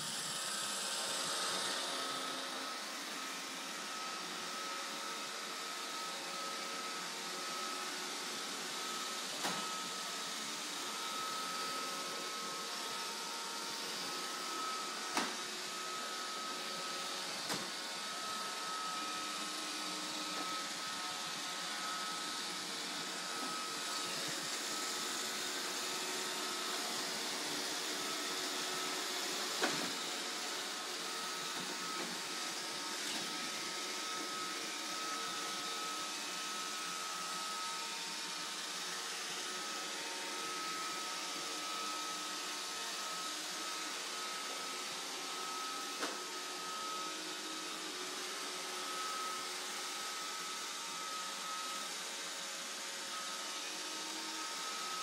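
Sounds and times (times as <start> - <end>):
robot vacuum whining hum: 0.0 - 55.0.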